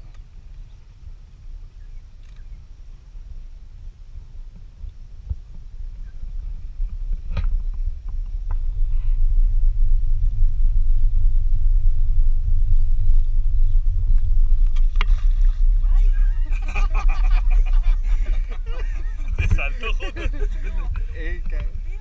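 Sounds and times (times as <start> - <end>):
motorboat rumble: 0.0 - 22.0.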